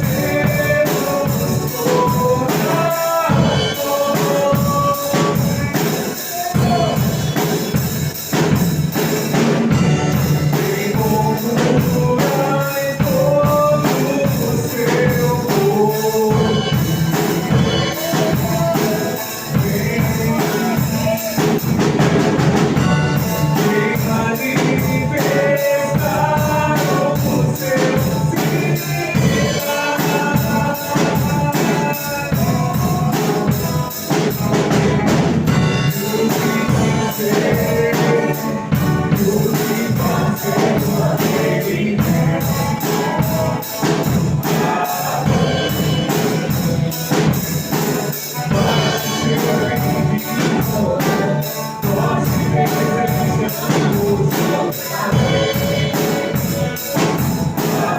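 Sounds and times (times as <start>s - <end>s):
drum kit steady beat: 0.0s - 57.9s
live worship band playing: 0.0s - 57.9s.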